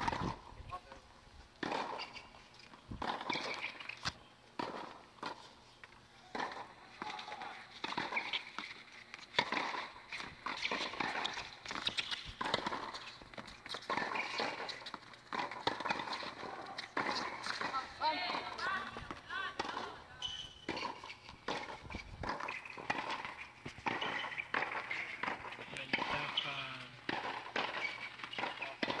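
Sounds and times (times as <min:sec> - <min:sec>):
shoes scuffing on court: 0:04.6 - 0:29.0.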